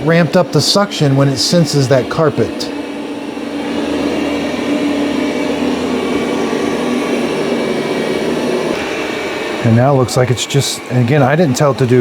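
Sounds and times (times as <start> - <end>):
robot vacuum whirring on carpet: 0.0 - 12.0.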